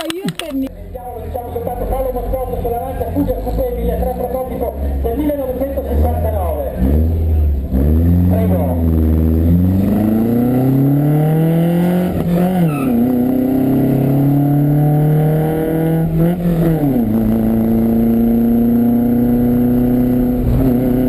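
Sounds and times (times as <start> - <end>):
car engine accelerating through gears: 1.0 - 21.0.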